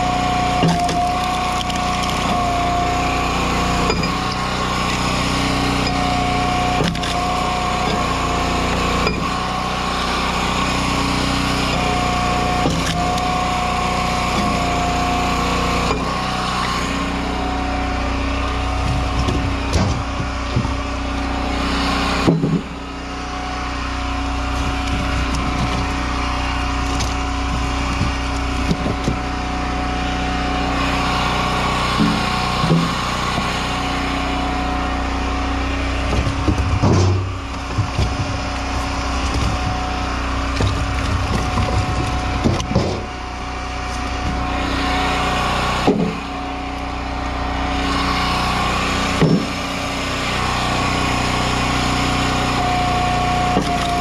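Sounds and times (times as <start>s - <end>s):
firewood splitting cracks: 0.0s - 17.3s, 18.1s - 21.6s, 22.2s - 30.2s, 35.0s - 46.9s, 48.1s - 49.8s, 51.5s - 54.0s
log splitter engine running: 0.0s - 54.0s.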